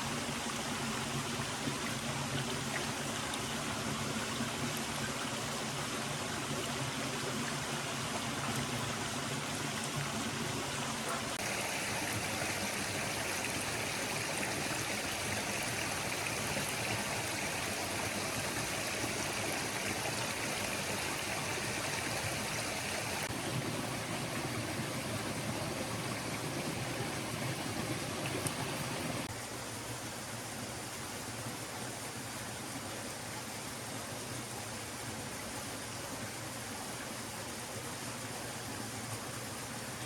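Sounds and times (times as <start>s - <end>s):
forest stream flowing: 0.0s - 40.0s.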